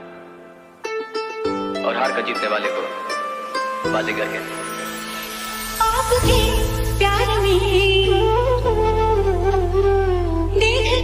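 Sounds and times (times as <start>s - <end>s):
higher melodic line: 0.4s - 10.5s.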